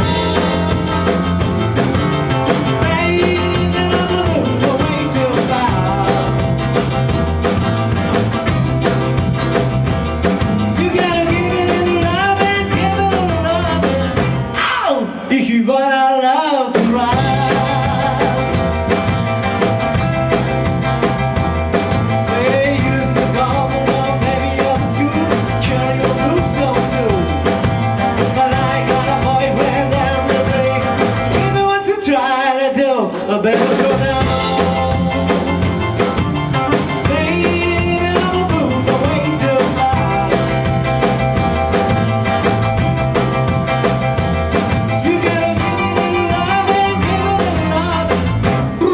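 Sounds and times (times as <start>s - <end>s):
band playing rock and roll: 0.0s - 48.9s.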